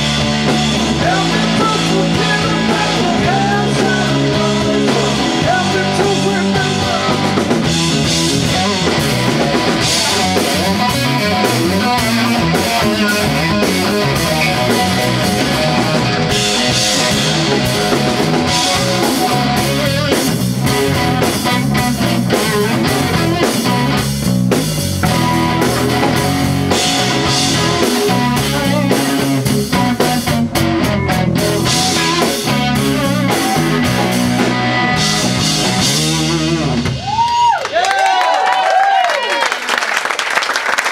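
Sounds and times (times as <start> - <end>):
drum kit: 0.0 - 38.2
loud electric guitar: 0.0 - 38.3.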